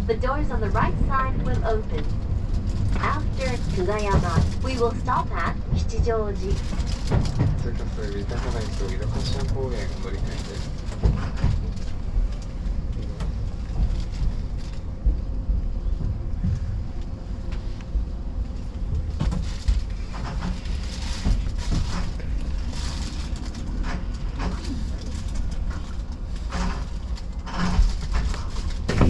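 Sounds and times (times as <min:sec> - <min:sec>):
electric train rumble: 0:00.0 - 0:29.0
knocks and clatter: 0:00.6 - 0:29.0.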